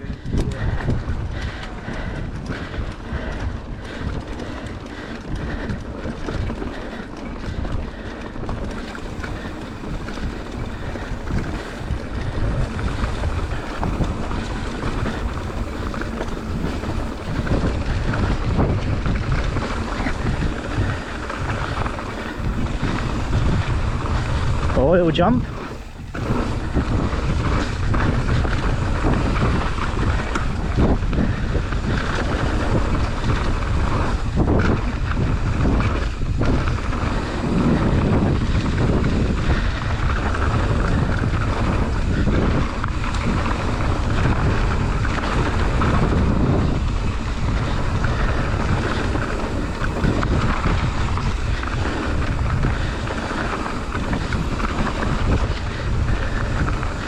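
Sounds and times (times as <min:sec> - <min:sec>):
bike knocking on trail: 0:00.0 - 0:57.0
tyre rumble: 0:00.0 - 0:57.0
wind buffeting microphone: 0:00.0 - 0:57.0.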